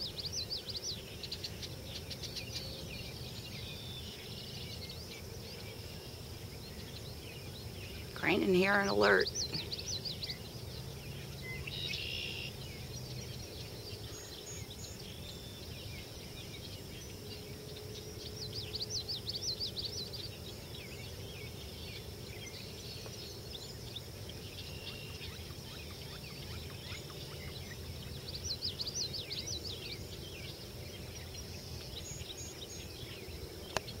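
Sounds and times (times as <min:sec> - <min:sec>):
low outdoor background noise: 0:00.0 - 0:34.0
songbird singing: 0:00.0 - 0:34.0.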